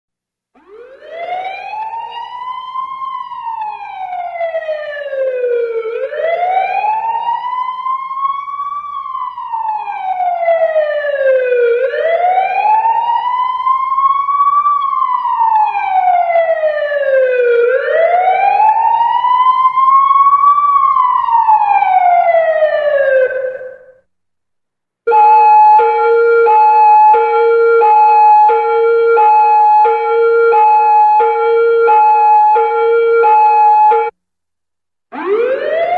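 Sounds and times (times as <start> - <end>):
police siren wailing: 0.6 - 24.0, 25.1 - 34.2, 35.1 - 35.9.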